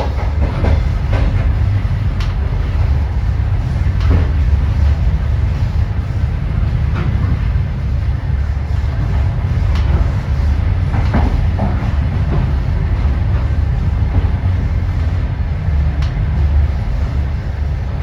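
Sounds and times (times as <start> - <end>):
train running gear rumble: 0.0 - 18.0.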